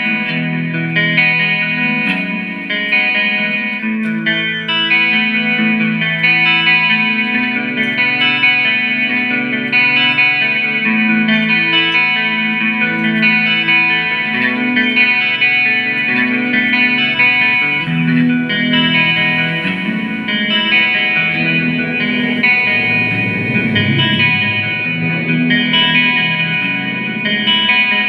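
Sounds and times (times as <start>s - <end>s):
guitar playing sustained chords: 0.0s - 28.0s.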